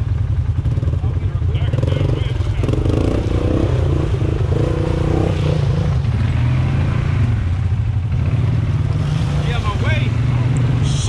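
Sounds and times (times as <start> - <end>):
atv engines rumbling: 0.0 - 11.0.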